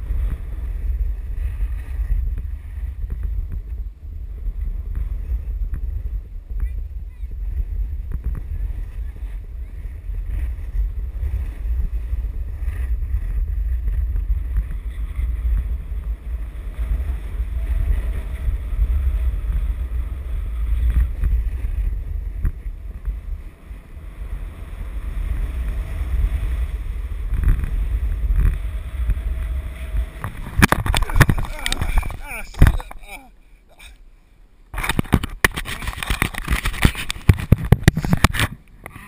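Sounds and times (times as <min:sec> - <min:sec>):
wind buffeting microphone: 0:00.0 - 0:34.0, 0:34.7 - 0:39.0.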